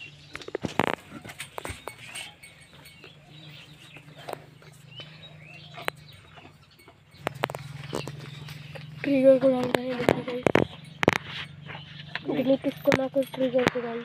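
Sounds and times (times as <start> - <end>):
farmyard animal calls: 0.0 - 14.0.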